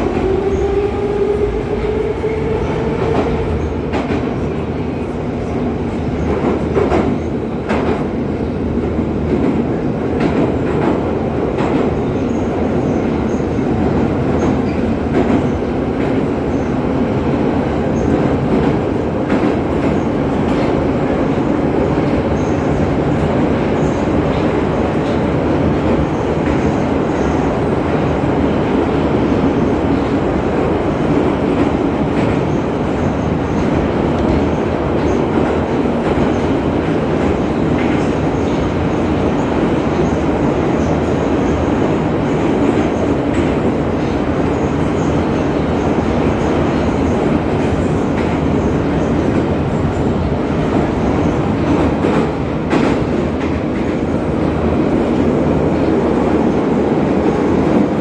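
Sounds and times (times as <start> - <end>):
metro wheels rumbling on rail: 0.0 - 58.0.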